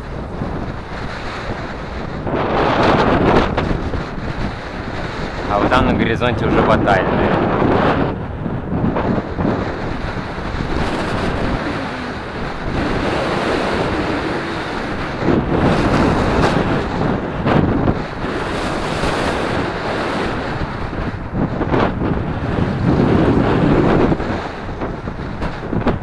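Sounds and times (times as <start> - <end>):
wind blowing across microphone: 0.0 - 26.0.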